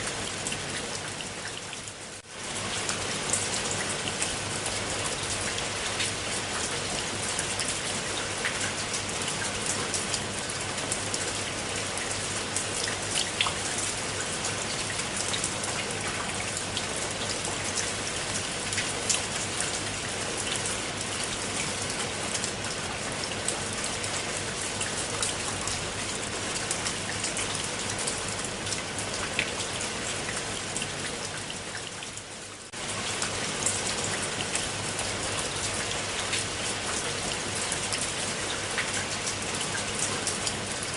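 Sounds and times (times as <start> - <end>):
rain falling on water: 0.0 - 40.9.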